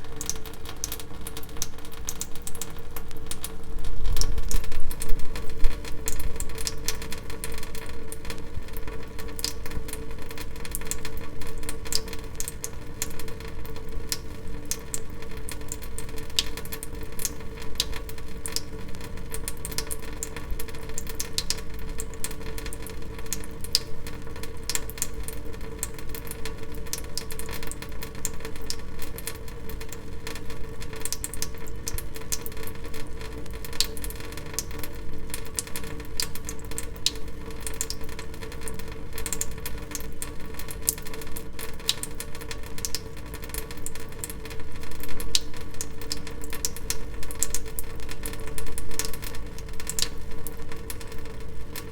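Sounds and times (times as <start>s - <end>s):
water dripping: 0.0s - 51.9s.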